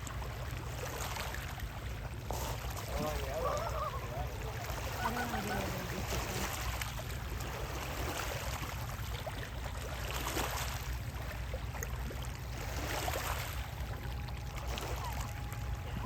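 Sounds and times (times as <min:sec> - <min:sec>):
water noise: 0:00.0 - 0:16.0.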